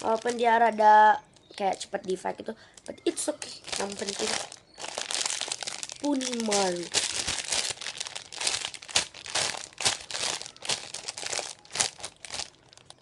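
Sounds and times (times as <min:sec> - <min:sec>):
squishy toy crinkling: 0:00.0 - 0:13.0.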